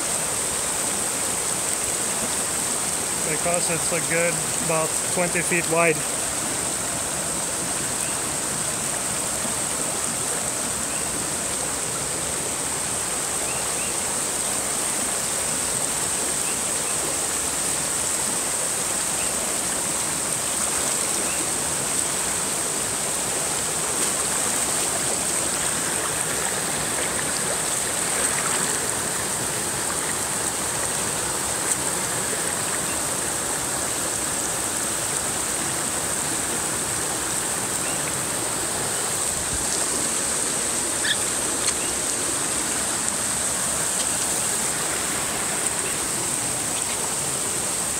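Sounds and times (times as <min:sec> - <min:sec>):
stream rushing over boulders: 0:00.0 - 0:47.9.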